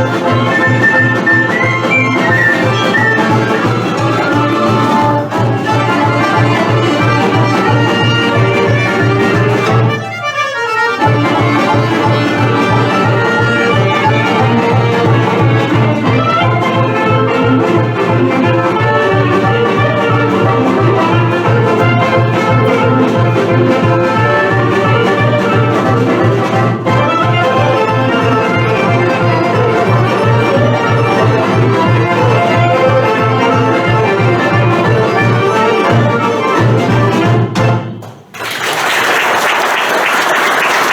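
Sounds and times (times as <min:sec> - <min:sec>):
folk dance music on accordion: 0:00.0 - 0:38.1.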